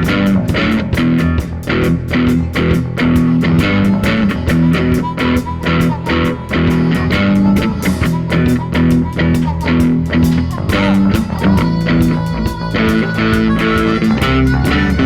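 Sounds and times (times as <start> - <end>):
guitar-led instrumental band: 0.0 - 15.0.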